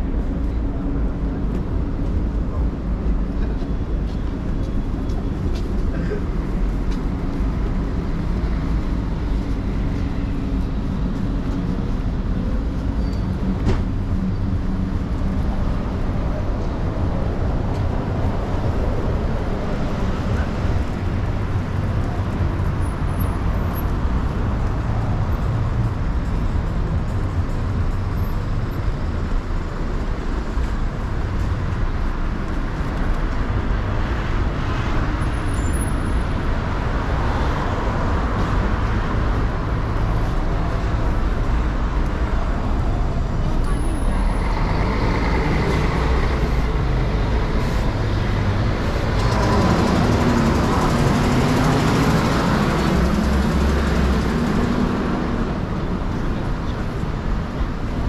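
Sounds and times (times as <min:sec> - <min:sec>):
cars and buses passing: 0:00.0 - 0:58.0.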